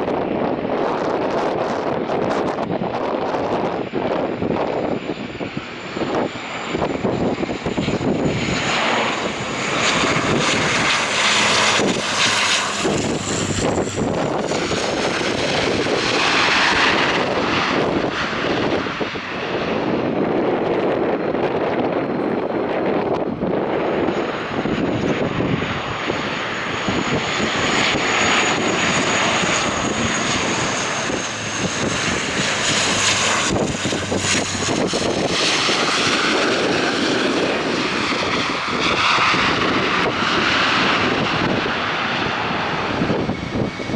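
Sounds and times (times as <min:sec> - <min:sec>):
turboprop plane passing: 0:00.0 - 0:43.9.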